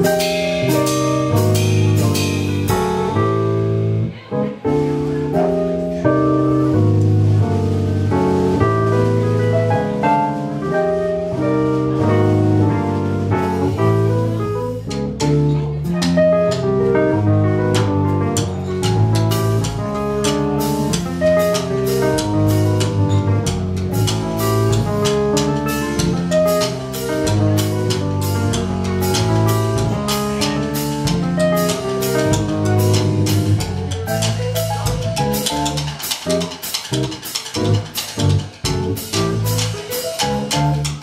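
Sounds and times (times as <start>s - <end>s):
drum kit beat: 0.0s - 41.0s
electric bass: 0.0s - 41.0s.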